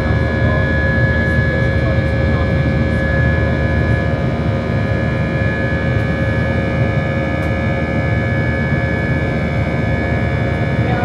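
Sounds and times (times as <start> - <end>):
aircraft cabin engine roar: 0.0 - 11.0
steady whining engine tones: 0.0 - 11.0.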